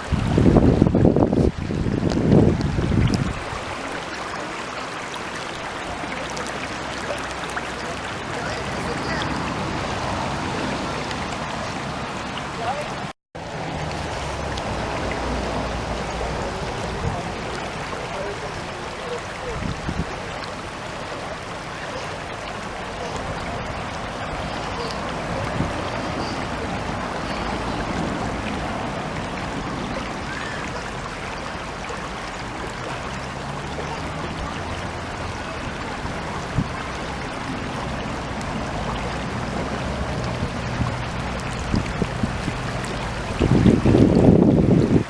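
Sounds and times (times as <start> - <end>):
stream flowing: 0.0 - 45.0.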